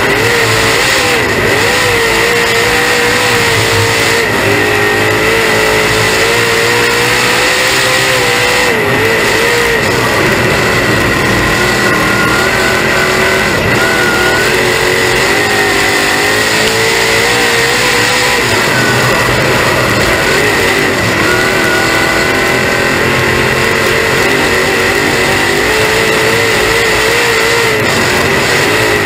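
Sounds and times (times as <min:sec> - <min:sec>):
race car engine at speed: 0:00.0 - 0:29.0
steady high whine: 0:00.0 - 0:29.0.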